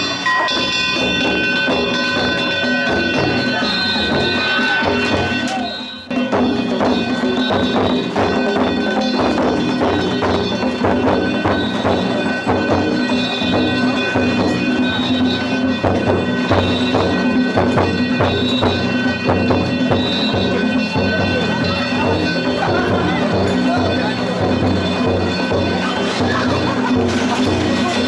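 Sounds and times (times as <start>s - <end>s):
rapid drum strikes: 0.0s - 28.0s.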